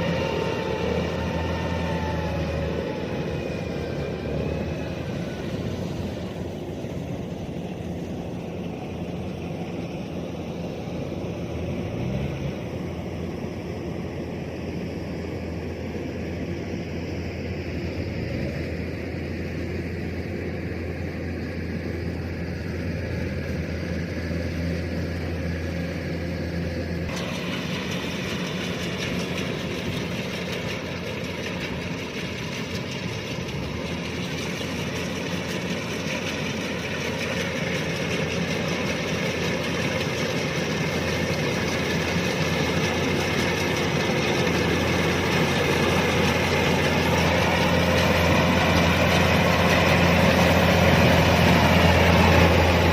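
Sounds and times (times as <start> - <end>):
combine harvester diesel engine: 0.0 - 52.9.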